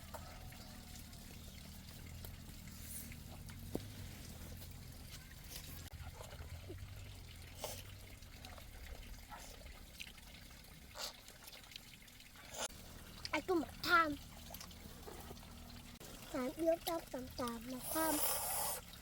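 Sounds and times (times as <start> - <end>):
faint trickling water: 0.0 - 19.0.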